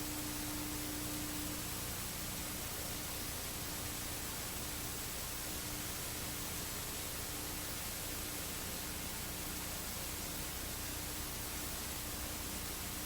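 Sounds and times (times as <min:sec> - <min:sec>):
faint low hum: 0:00.0 - 0:13.0
static hiss: 0:00.0 - 0:13.0.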